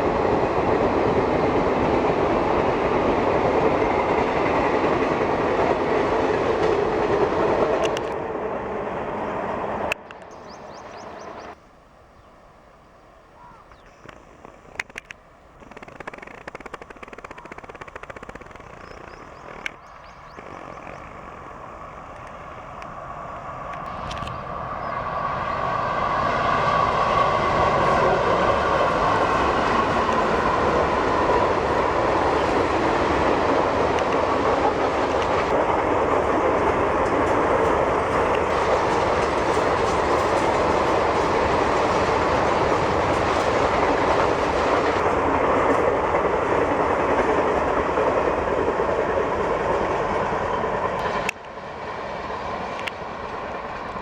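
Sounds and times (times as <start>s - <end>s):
train rushing past: 0.0s - 13.6s, 17.2s - 54.0s.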